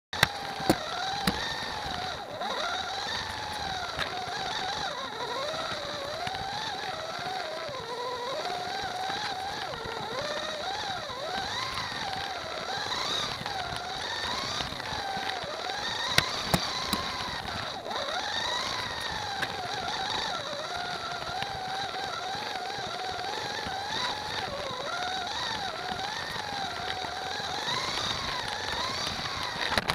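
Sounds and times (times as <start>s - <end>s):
sharp clicks: 0.2s - 20.6s, 21.2s - 29.9s
slot car motor whining: 0.2s - 29.9s.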